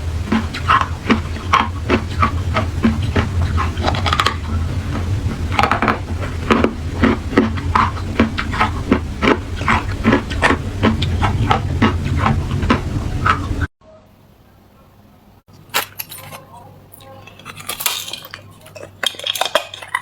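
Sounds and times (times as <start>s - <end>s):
steady low hum: 0.0s - 20.0s
ice being chewed crunching: 0.2s - 13.6s, 15.5s - 20.0s.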